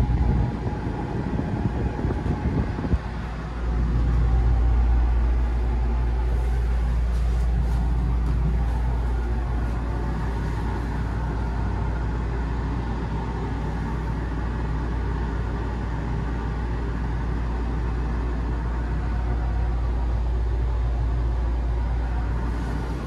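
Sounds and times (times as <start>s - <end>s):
low rumble and hum in gondola: 0.0s - 23.0s.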